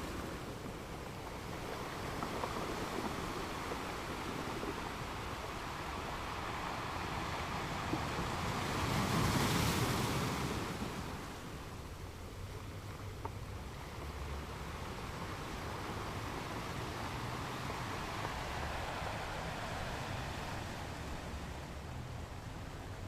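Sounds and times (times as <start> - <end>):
ocean wave breaking: 0.0 - 12.0, 14.1 - 23.0
background wash of water: 0.0 - 23.0.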